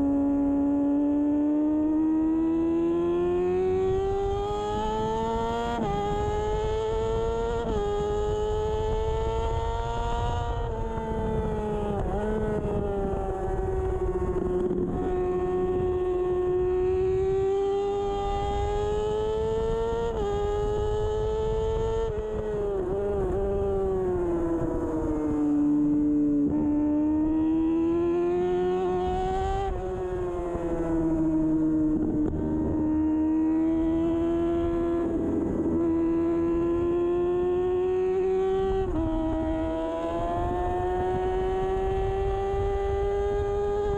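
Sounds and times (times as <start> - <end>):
motorcycle engine revving high: 0.0 - 43.9.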